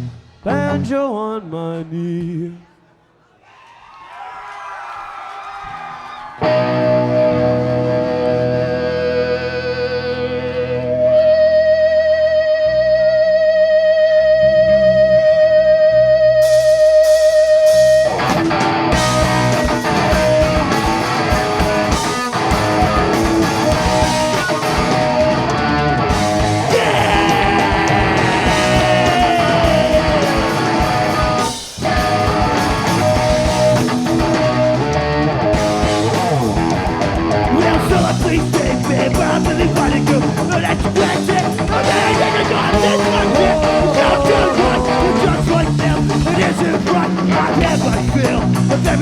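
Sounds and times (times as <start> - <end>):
rock band playing: 0.0 - 0.9, 6.4 - 49.0.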